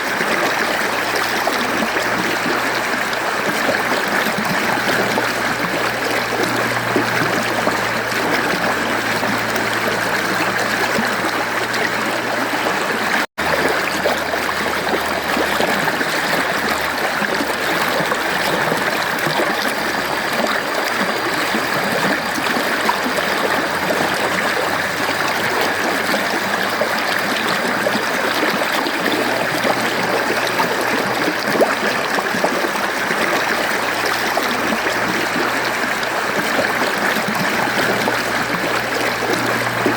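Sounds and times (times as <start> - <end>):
stream rushing and gurgling: 0.0 - 39.9.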